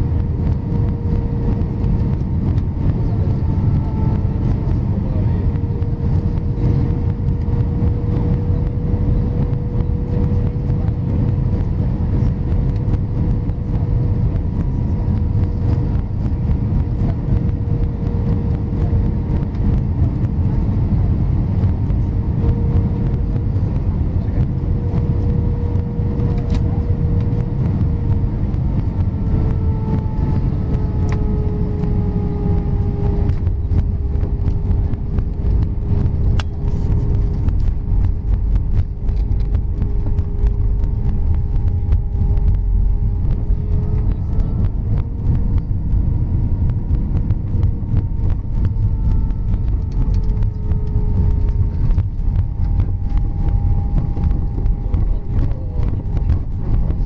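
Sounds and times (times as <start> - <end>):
aircraft engine rumble and airflow: 0.0 - 57.0
engine whine: 0.0 - 57.0.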